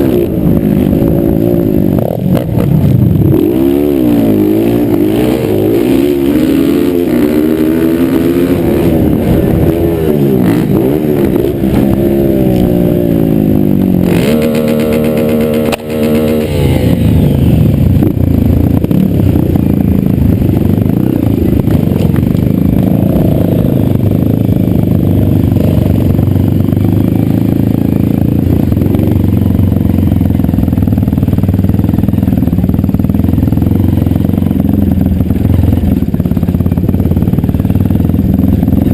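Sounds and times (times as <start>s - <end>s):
dirt bike engine revving: 0.0s - 38.9s
several dirt bike engines: 0.0s - 38.9s.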